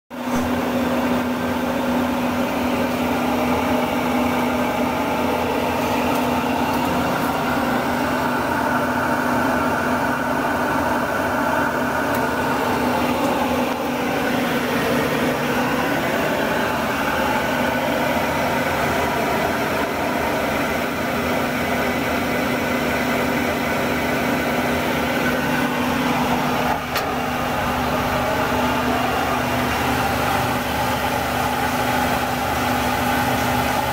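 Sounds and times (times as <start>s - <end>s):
industrial blower humming: 0.1s - 33.9s.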